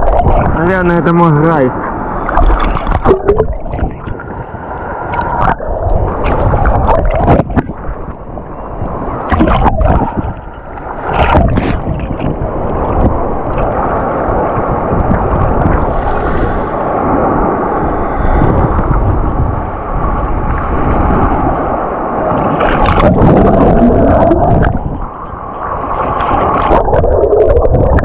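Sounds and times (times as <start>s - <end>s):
rush of waves: 0.0s - 28.0s
sea water sloshing and splashing: 1.8s - 28.0s.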